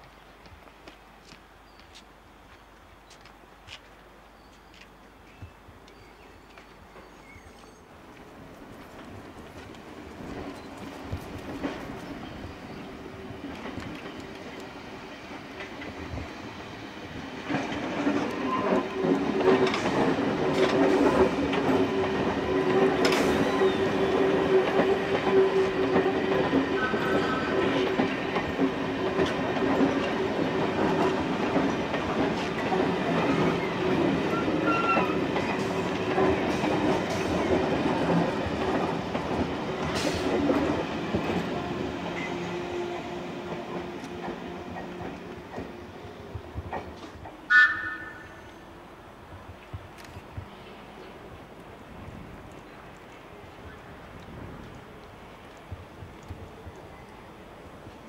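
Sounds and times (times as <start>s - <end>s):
train rumble and hum: 4.7s - 58.0s.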